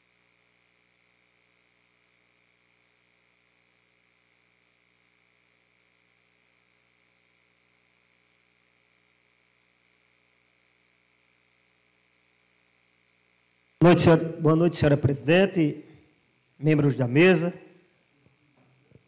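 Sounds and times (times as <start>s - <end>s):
faint electrical hum and hiss: 0.0s - 19.0s.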